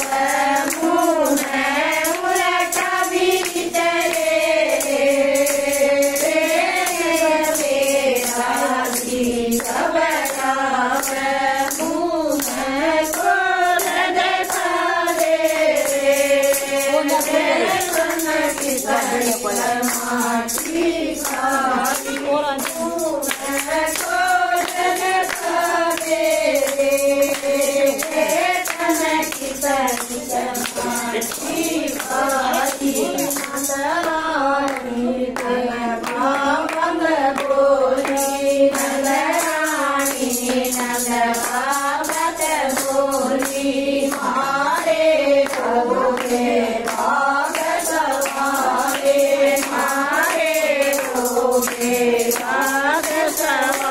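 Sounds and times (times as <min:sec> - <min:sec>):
hand percussion: 0:00.0 - 0:53.9
handclaps: 0:00.0 - 0:53.9
women singing in unison: 0:00.0 - 0:53.9.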